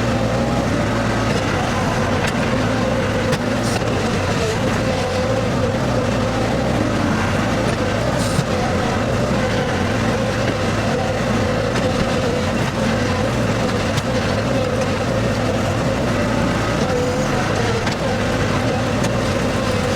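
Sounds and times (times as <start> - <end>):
skid steer engine droning: 0.0 - 19.9.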